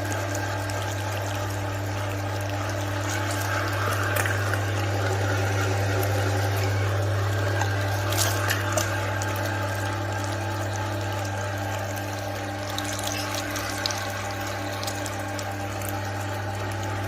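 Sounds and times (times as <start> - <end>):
electric meat grinder humming: 0.0 - 17.0.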